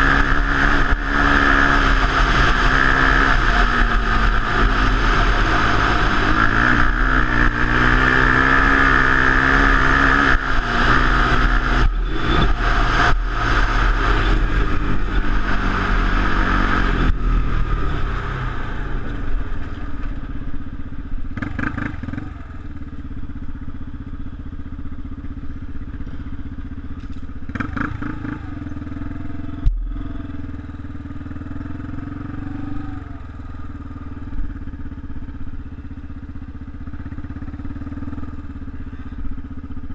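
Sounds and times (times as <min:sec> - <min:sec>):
quad bike engine revving: 0:00.0 - 0:23.9, 0:25.8 - 0:35.6, 0:36.6 - 0:39.9.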